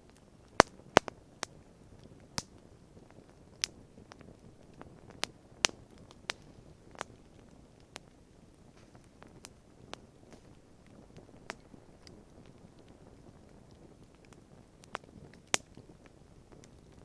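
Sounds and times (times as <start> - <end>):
campfire crackling: 0.0 - 17.0
sharp pops of fire: 0.0 - 17.0.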